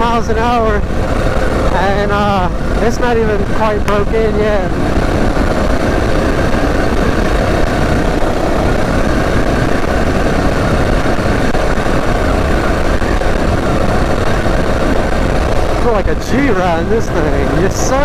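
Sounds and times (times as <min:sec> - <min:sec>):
small engine running: 0:00.0 - 0:18.0
wind buffeting microphone: 0:00.0 - 0:18.0.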